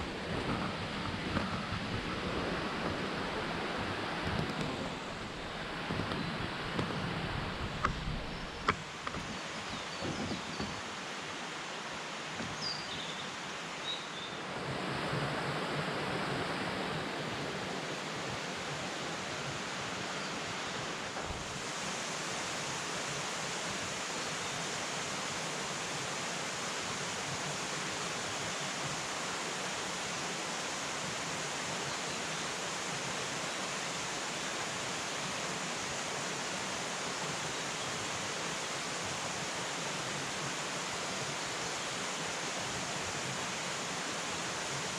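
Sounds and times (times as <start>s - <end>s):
river rushing over rocks: 0.0s - 44.9s.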